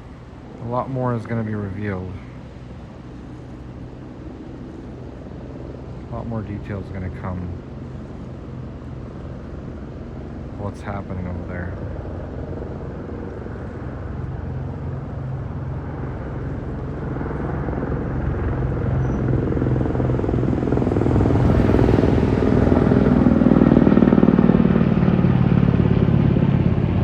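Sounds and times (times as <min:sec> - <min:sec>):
engine drone passing: 0:00.0 - 0:27.0.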